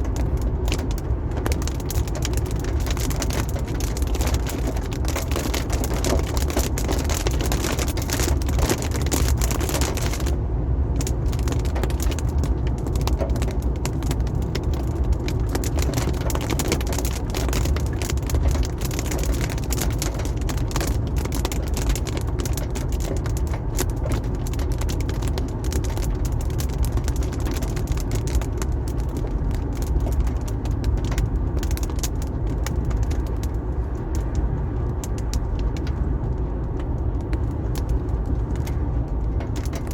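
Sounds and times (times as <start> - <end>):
ticks of raindrops: 0.0 - 10.4, 11.0 - 39.9
road and tyre rumble: 0.0 - 39.9.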